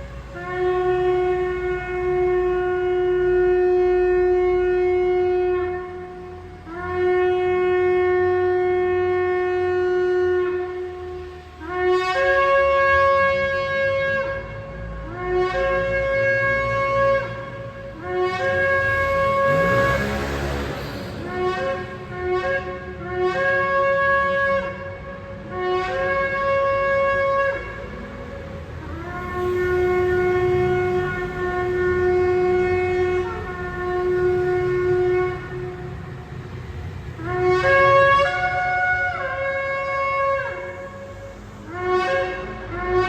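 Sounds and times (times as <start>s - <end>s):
shofar blasts: 0.1s - 43.0s.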